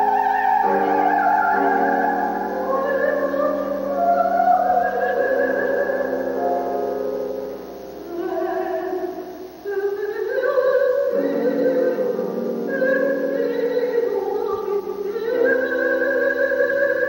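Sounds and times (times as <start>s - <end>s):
soprano singing operatic: 0.0s - 17.0s.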